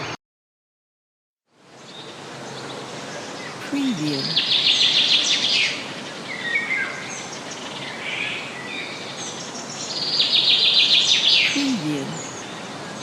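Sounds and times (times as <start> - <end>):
steady background hiss: 1.5 - 13.0
birds chirping: 1.8 - 13.0.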